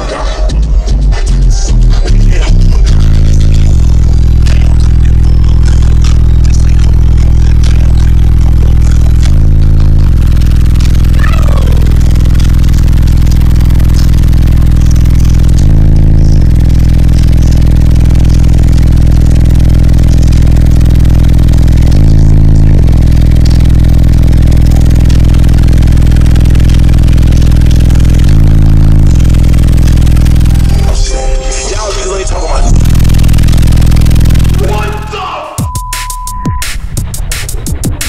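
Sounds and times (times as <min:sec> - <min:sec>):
subwoofers playing loud bass music: 0:00.0 - 0:38.0.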